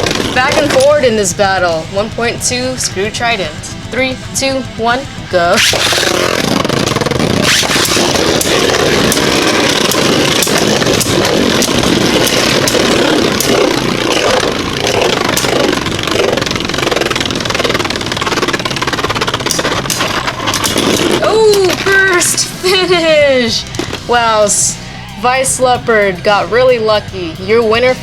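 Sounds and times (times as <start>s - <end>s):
spinning tops whirring and grinding: 0.0s - 28.0s.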